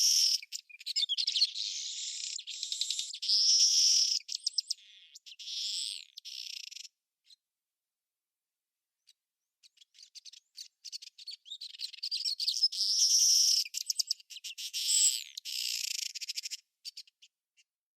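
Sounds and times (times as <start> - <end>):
animal chirping and trills: 0.0 - 7.4, 9.0 - 17.7.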